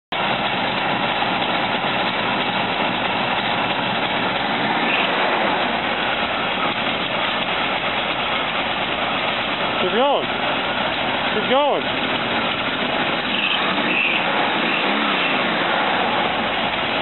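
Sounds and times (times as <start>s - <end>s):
engine idling: 0.1s - 17.0s.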